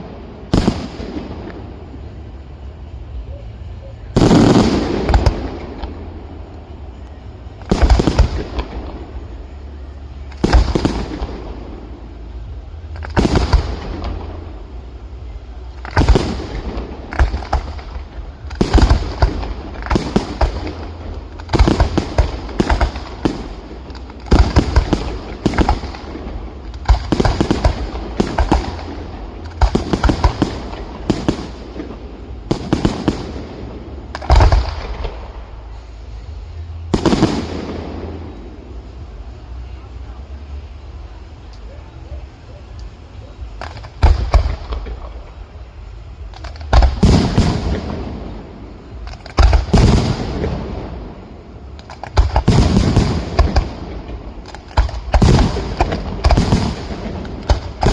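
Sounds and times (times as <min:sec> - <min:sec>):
firework bangs echoing: 0:00.0 - 0:02.3, 0:04.0 - 0:06.2, 0:07.4 - 0:09.6, 0:10.2 - 0:15.0, 0:15.7 - 0:39.1, 0:43.4 - 0:57.9.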